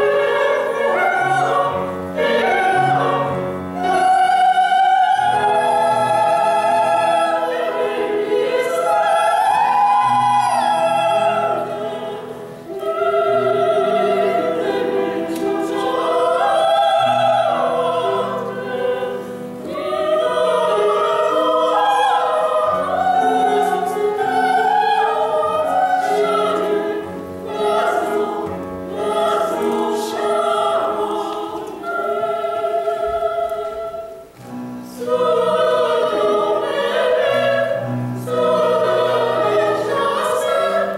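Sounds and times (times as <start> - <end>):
women singing operatic: 0.0 - 40.9.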